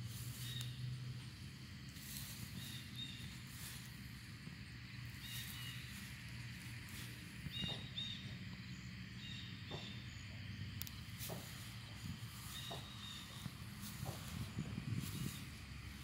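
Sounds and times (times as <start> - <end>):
soft footsteps on grass: 0.0 - 8.7, 10.9 - 16.0
steady low hum: 0.0 - 16.0.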